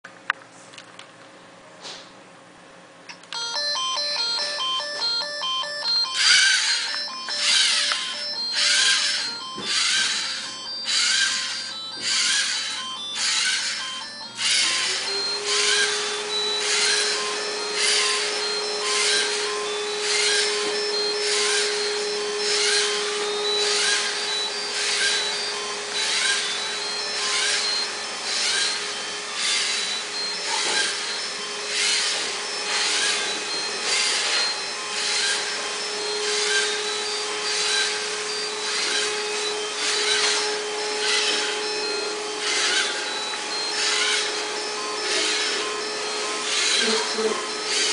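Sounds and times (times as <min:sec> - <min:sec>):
rhythmic rasping stroke: 0:03.4 - 0:47.9
robot motors whirring: 0:06.5 - 0:47.9.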